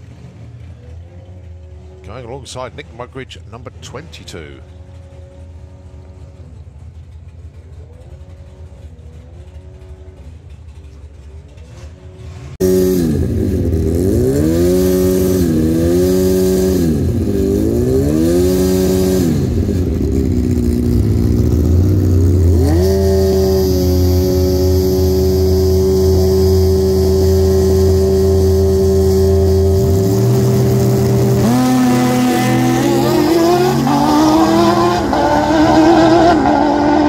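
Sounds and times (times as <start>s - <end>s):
dragster engines revving: 0.0s - 37.0s.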